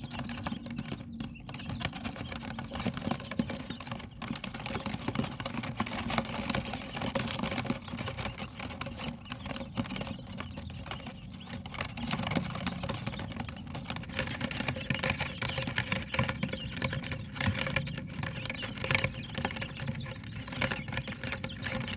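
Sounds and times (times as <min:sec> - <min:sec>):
quails pecking at pellets: 0:00.0 - 0:21.9.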